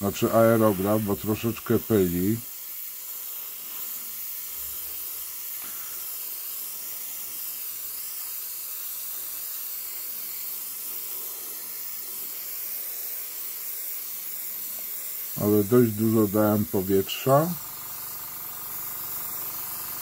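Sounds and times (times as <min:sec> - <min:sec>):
airbrush hissing: 0:00.0 - 0:20.0.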